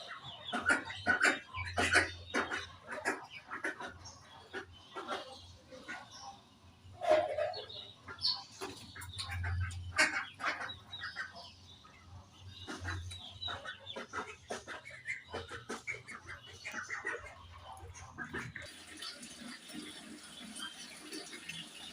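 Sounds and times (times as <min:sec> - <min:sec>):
budgerigars chirping and chattering: 0:00.0 - 0:21.9.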